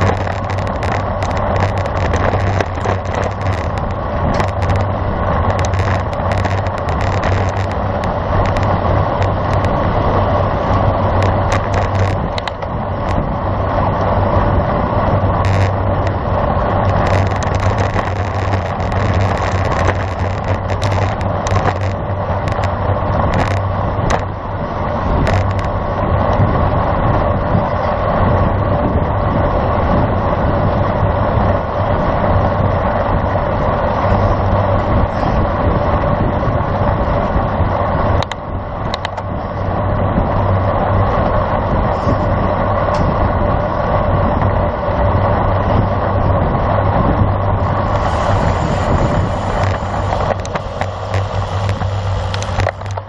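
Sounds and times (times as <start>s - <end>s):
constant low hum: 0.0s - 53.0s
road noise: 0.0s - 53.0s
wind rushing on microphone: 0.0s - 53.0s.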